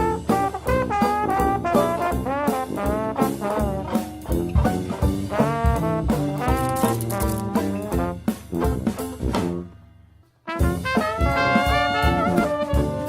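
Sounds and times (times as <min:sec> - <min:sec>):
steady drum beat: 0:00.0 - 0:09.6, 0:10.5 - 0:13.0
upbeat brass jazz music: 0:00.0 - 0:09.8, 0:10.4 - 0:13.0.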